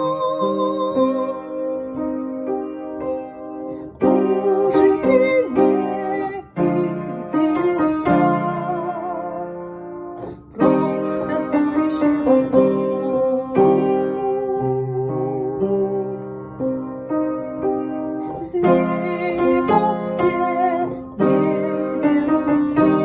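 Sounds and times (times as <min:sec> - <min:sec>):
slow keyboard melody: 0:00.0 - 0:23.0
sustained piano-like chords: 0:00.0 - 0:23.0.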